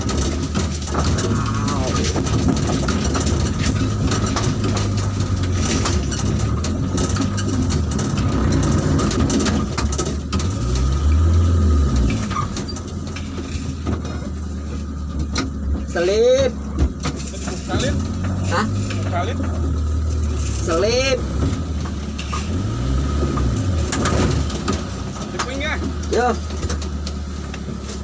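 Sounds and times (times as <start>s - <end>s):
rattles and knocks in cab: 0.0s - 28.0s
truck engine drone: 0.0s - 28.0s.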